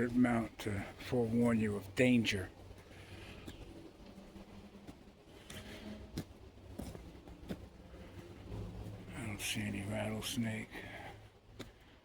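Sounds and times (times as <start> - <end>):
footsteps on a trail: 0.0 - 12.0.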